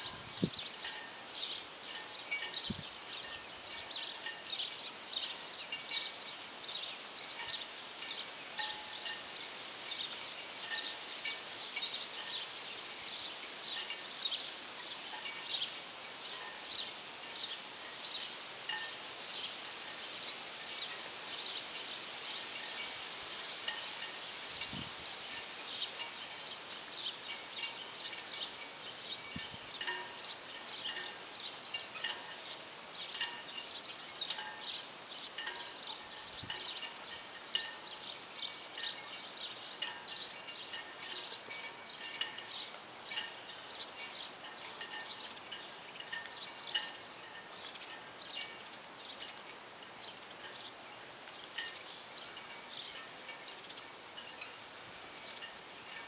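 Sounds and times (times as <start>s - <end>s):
birds chirping: 0.0s - 56.0s
light outdoor noise: 0.0s - 56.0s.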